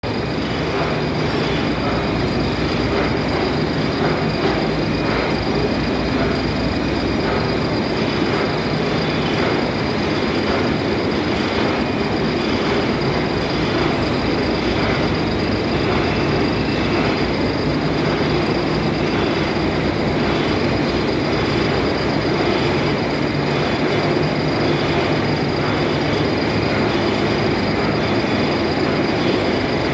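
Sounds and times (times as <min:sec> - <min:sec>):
workshop machinery rumbling: 0:00.0 - 0:29.9.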